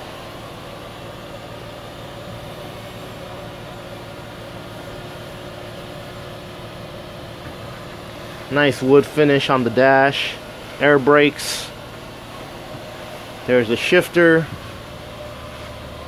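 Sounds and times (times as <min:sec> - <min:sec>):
air conditioning hiss: 0:00.0 - 0:16.0
faint low vehicle hum: 0:00.0 - 0:16.0.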